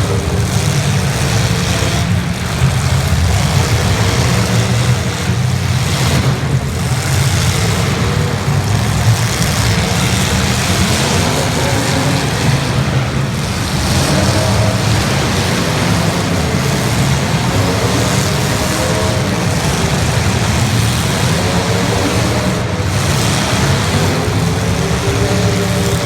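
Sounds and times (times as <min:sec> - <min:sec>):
car engines revving together: 0:00.0 - 0:26.0.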